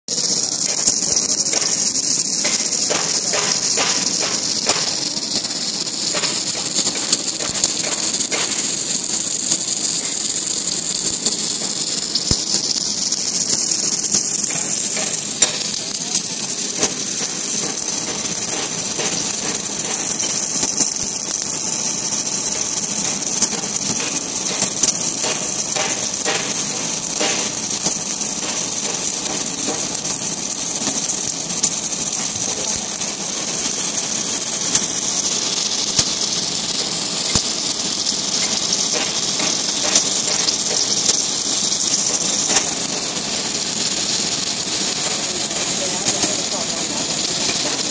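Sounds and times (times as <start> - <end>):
welding hiss with crackles: 0.1 - 47.9.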